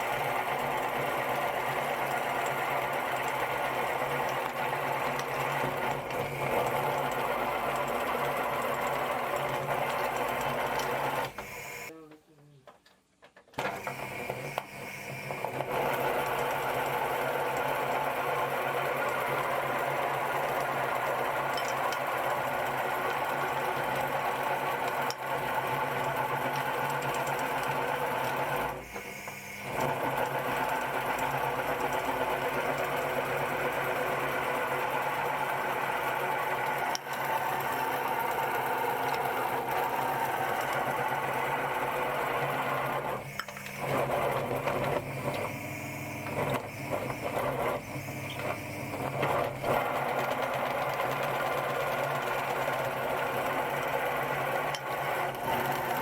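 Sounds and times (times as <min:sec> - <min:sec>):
electric grinder motor whir: 0:00.0 - 0:11.9, 0:13.6 - 0:56.0.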